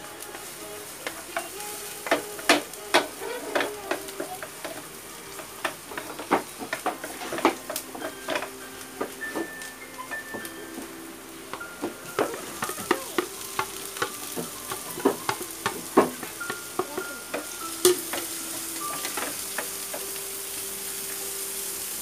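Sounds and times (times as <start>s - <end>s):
wooden spatula scraping a pan: 0.0s - 20.7s
food sizzling: 0.0s - 22.0s.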